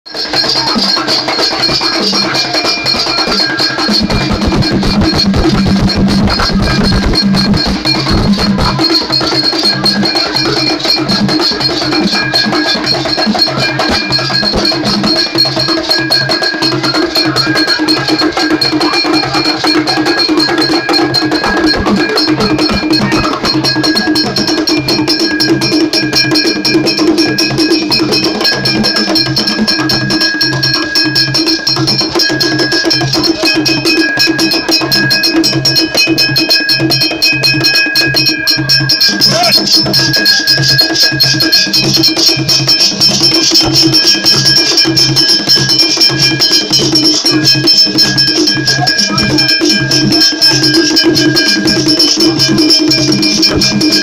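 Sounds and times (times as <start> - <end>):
bright ringing tone: 0.1 - 54.0
drums beaten: 0.1 - 54.0.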